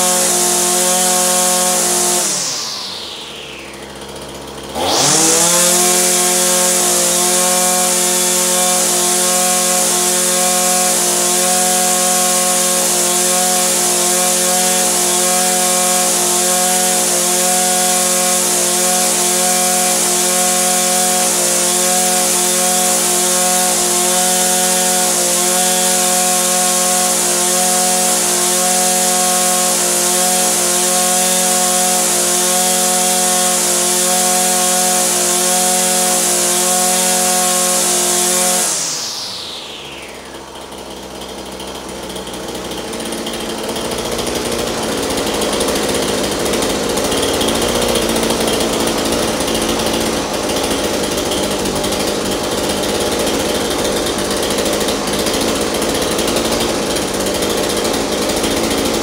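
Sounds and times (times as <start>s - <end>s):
string trimmer engine revving: 0.0s - 59.0s.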